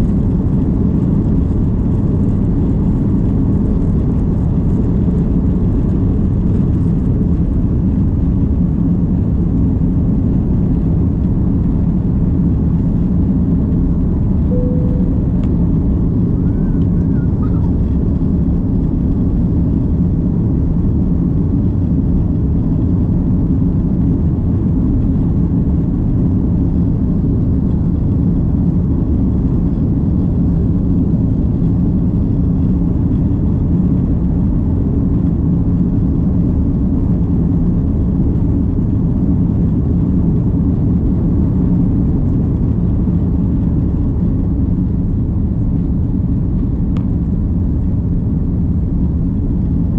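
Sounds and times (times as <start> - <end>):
airliner cabin engine rumble: 0.0 - 49.9.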